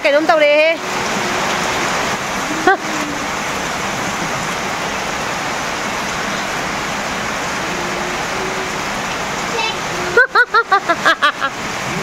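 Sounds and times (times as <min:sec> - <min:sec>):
heavy rain on ground and puddles: 0:00.0 - 0:12.0.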